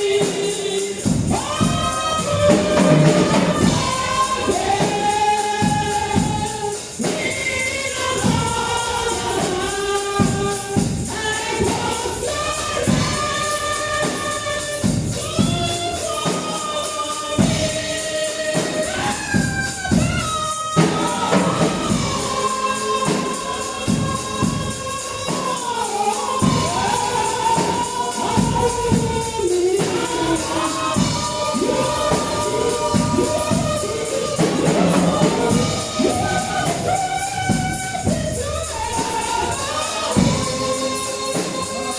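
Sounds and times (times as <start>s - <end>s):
group singing gospel song: 0.0s - 41.9s
tambourine shaking: 0.0s - 41.9s.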